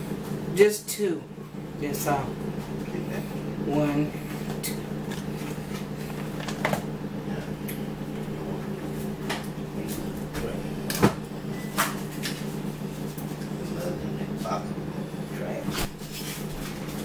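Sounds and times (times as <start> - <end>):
low hum: 1.2 - 17.0.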